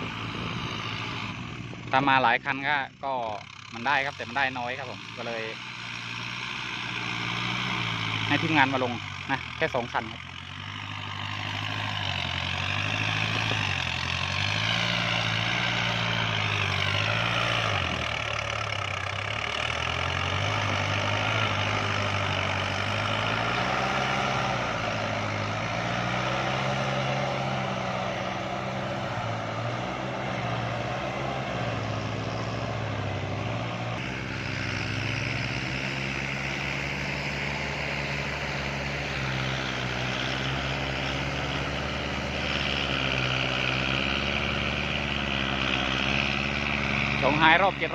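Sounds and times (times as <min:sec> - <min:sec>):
tiller churning mud: 0:00.0 - 0:47.9
tractor diesel engine running hard: 0:00.0 - 0:47.9.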